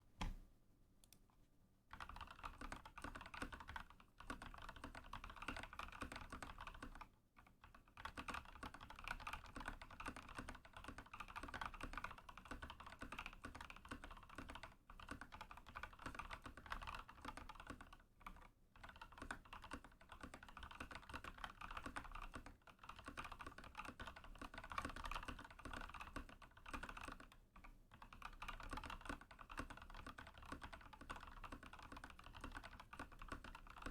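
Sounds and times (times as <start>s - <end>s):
mechanical keyboard typing: 1.9s - 33.9s.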